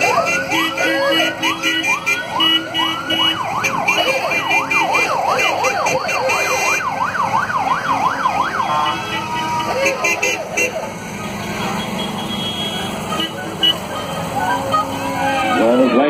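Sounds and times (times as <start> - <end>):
electronic siren whooping and wailing: 0.0 - 10.8, 13.1 - 16.0.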